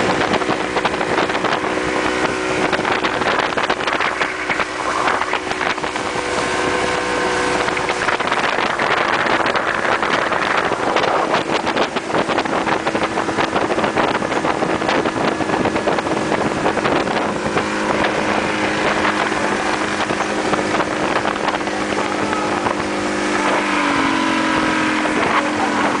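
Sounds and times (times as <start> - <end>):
motorboat engine running: 0.0 - 26.0
rushing water: 0.0 - 26.0
wind buffeting microphone: 0.0 - 26.0.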